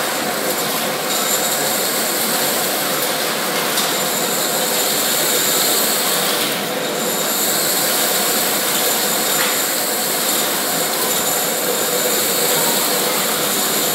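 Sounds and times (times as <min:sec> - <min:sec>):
industrial vacuum cleaner running: 0:00.0 - 0:13.9.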